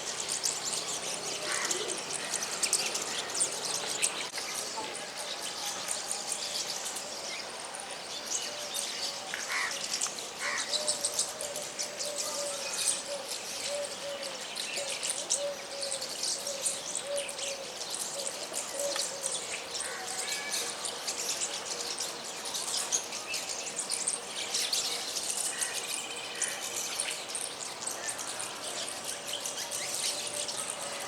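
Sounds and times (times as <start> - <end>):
flock of birds chirping: 0.0 - 31.0.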